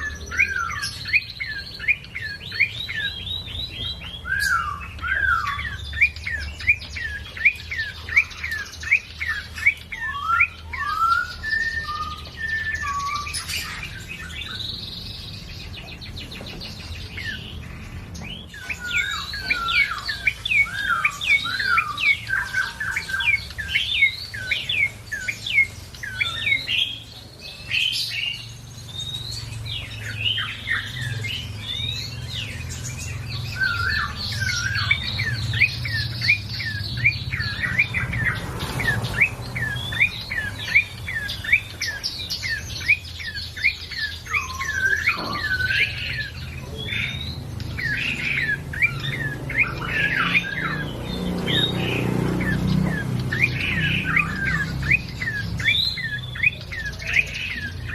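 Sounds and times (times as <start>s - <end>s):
songbird chattering chirps: 0.0s - 57.9s.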